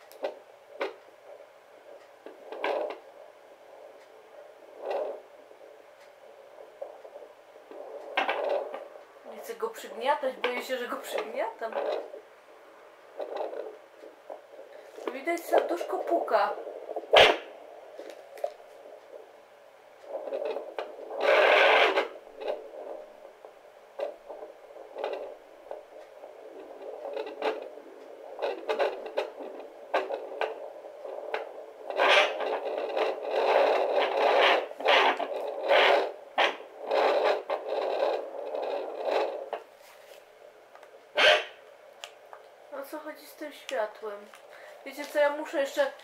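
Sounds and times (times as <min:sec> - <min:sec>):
scratchy static and rubbing noise: 0:00.0 - 0:46.0.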